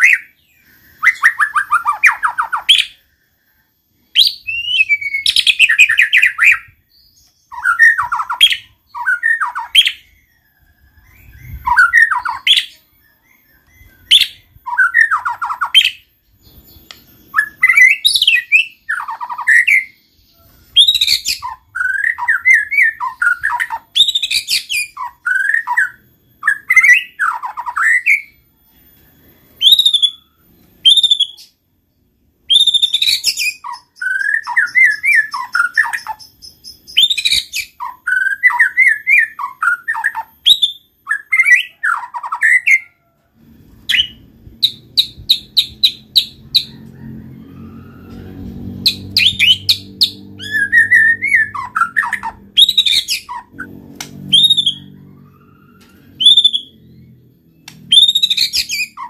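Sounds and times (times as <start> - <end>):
bird singing whistles and trills: 0.0 - 43.2, 43.8 - 47.1, 48.6 - 59.0.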